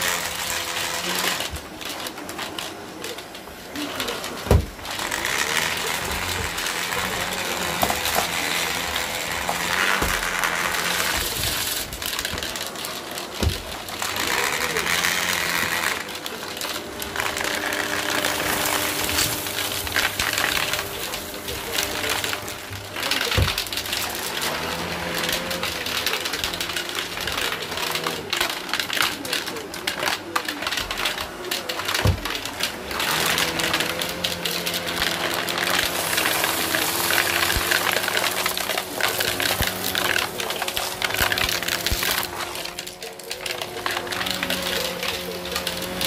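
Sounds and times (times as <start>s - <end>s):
debris clicking and rattling: 0.0s - 46.0s
vacuum cleaner running over carpet: 0.0s - 46.0s.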